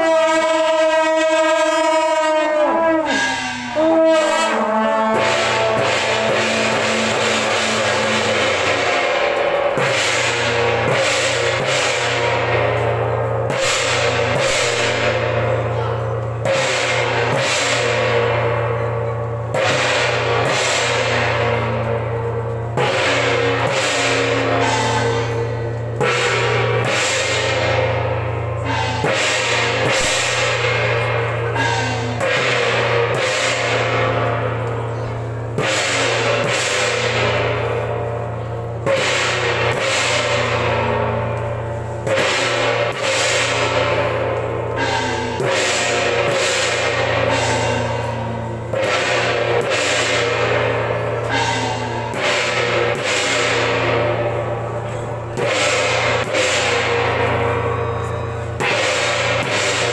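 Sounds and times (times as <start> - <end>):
drum and cymbal strikes: 0.0 - 59.9
gong and cymbal crashes: 0.0 - 59.9.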